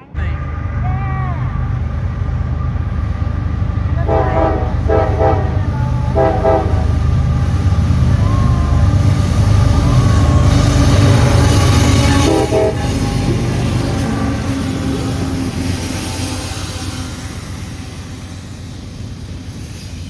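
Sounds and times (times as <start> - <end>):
locomotive engine rumbling: 0.0 - 20.0.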